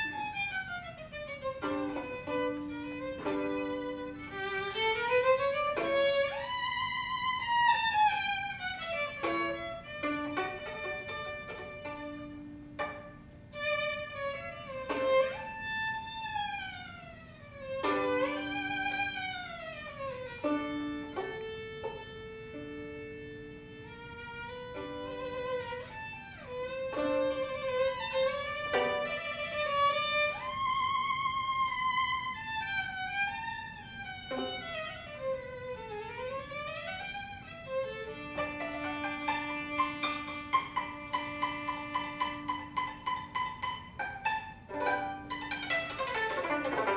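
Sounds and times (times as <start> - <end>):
violin playing fast runs: 0.0 - 46.9.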